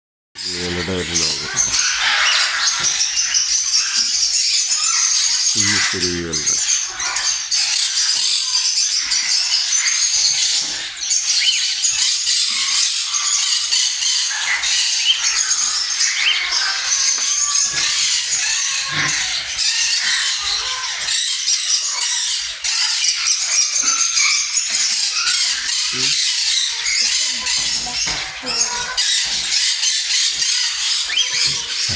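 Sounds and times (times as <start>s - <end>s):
small birds chirping: 0.4s - 31.9s.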